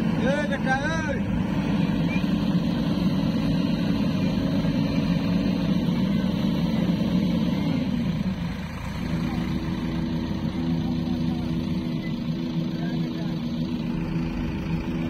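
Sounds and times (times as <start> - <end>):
heavy diesel engine: 0.0 - 15.0.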